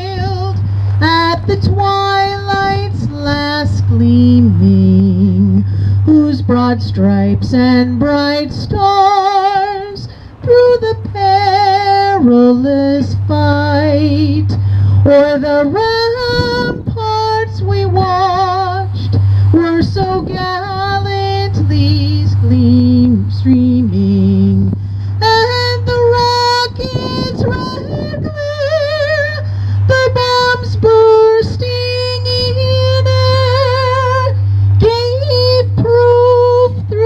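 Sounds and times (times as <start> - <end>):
low steady hum: 0.0 - 37.0
woman singing unaccompanied: 0.0 - 37.0.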